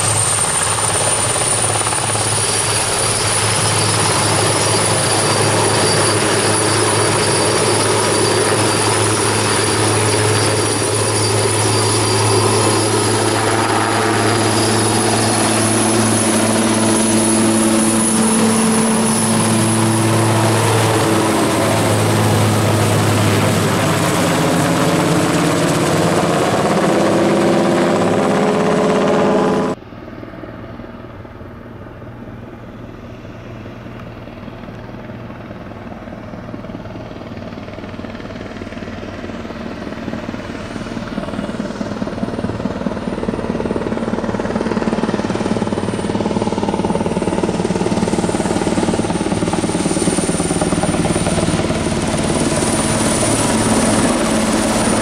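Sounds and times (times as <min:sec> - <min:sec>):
high turbine whine: 0:00.0 - 0:36.1, 0:37.8 - 0:55.0
distant helicopter: 0:00.0 - 0:55.0
helicopter rotor and engine noise: 0:00.0 - 0:55.0.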